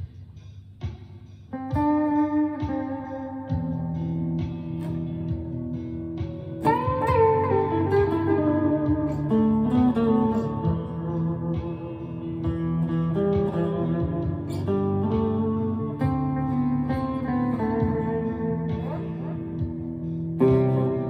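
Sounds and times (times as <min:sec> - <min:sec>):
electric guitar ringing notes: 0:01.5 - 0:21.0.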